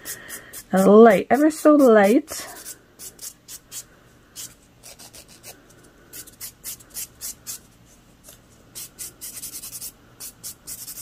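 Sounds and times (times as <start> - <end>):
nail file scratching on nail: 0.5 - 7.6, 8.8 - 11.0.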